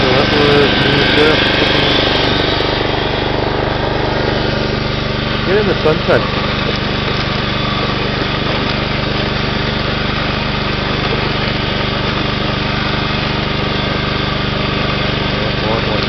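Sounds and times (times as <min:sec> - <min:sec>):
small mower engine running: 0:00.0 - 0:16.0.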